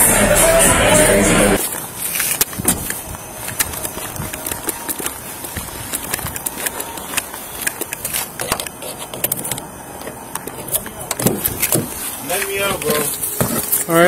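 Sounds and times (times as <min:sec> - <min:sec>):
steady background noise: 0:00.0 - 0:14.0
body camera handling noise: 0:01.6 - 0:14.0.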